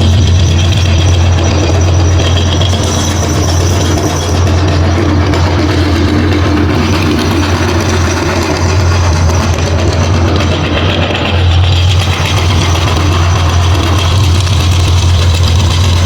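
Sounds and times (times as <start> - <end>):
electric meat grinder running: 0.0 - 16.0.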